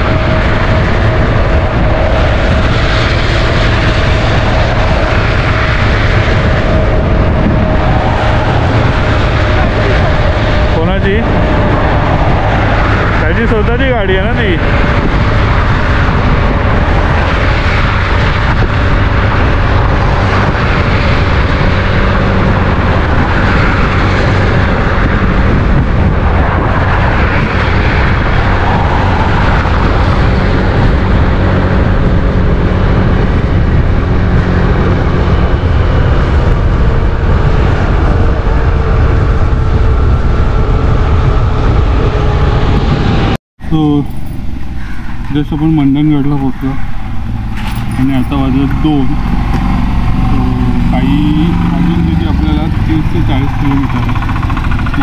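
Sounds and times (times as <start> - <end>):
scooter engine drone: 0.0 - 55.0
tyres on road: 0.0 - 55.0
wind rushing on microphone: 0.0 - 55.0.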